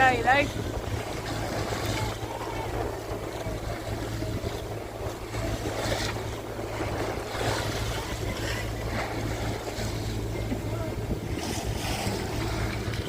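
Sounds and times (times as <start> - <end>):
steady low hum: 0.0 - 13.0
water washing along hull: 0.0 - 13.0
wind buffeting microphone: 0.0 - 13.0.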